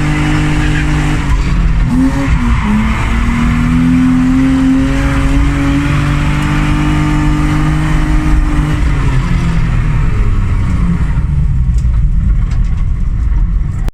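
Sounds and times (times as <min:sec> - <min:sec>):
car engine running: 0:00.0 - 0:13.9.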